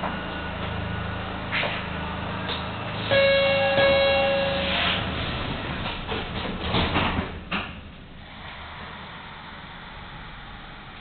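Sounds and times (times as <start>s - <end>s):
subway car low hum: 0.0s - 11.0s.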